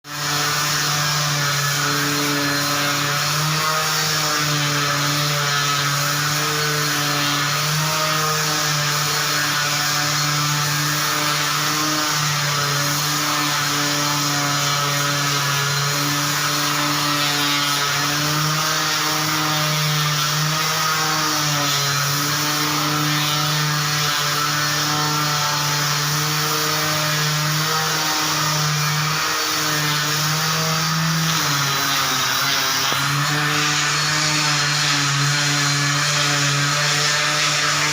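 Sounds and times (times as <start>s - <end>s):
floor sanding machine running: 0.0s - 37.9s.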